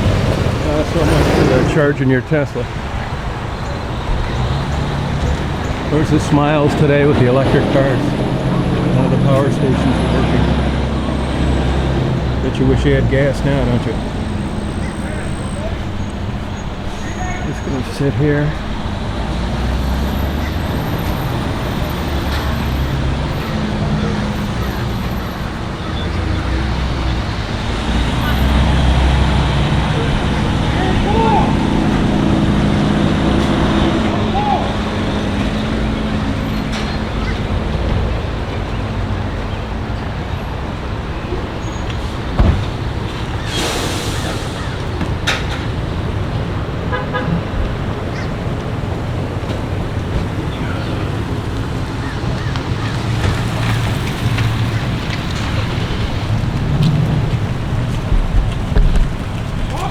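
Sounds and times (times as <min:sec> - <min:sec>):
low engine rumble: 0:00.0 - 0:59.9
traffic hiss: 0:00.0 - 0:59.9.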